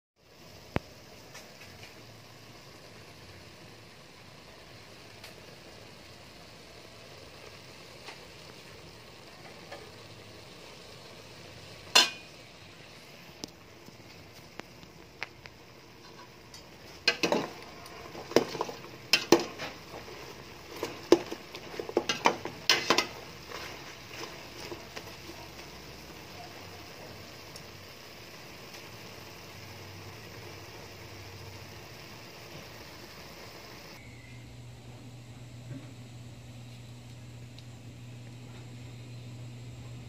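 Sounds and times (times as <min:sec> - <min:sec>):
meat sizzling: 0:00.2 - 0:34.1.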